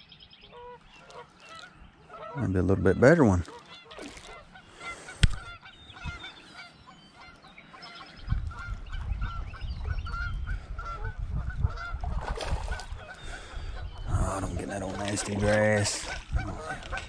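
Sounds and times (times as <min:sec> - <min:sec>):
geese honking: 0:00.5 - 0:17.0.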